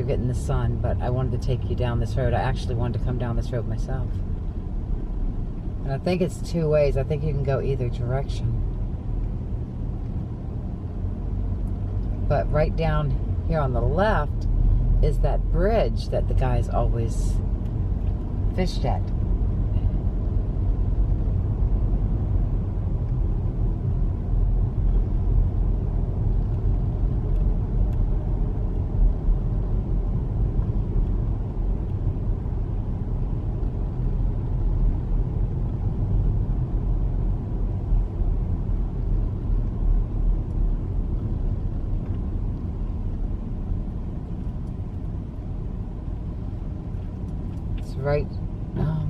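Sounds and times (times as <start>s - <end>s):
car interior road rumble: 0.0s - 49.0s.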